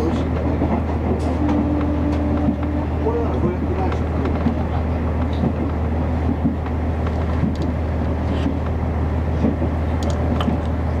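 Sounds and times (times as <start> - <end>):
railcar engine drone: 0.0 - 11.0
wheels clicking on track: 0.0 - 11.0.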